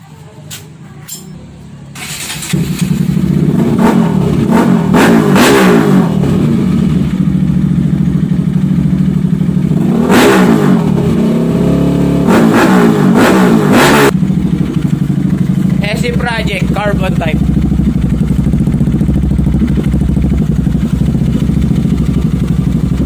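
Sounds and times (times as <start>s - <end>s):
motorcycle engine revving: 1.9s - 23.0s.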